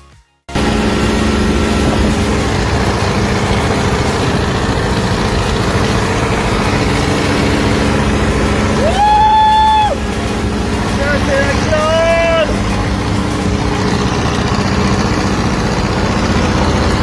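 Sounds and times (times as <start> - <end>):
car engine droning: 0.5 - 17.0
high rising tone: 0.5 - 17.0
road and wind noise: 0.5 - 17.0.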